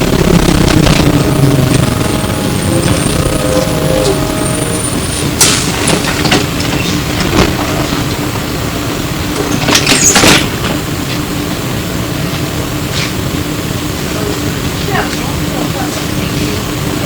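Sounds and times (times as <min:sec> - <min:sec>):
trolleybus hum and drone: 0:00.0 - 0:17.0.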